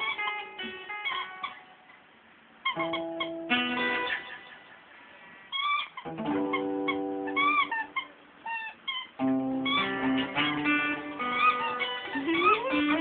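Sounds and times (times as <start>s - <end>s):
guitar background music: 0.0s - 1.9s, 2.6s - 4.8s, 6.0s - 13.0s.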